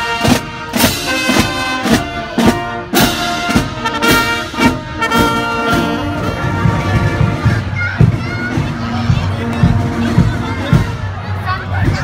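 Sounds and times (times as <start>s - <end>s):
marching band brass playing: 0.0s - 12.0s.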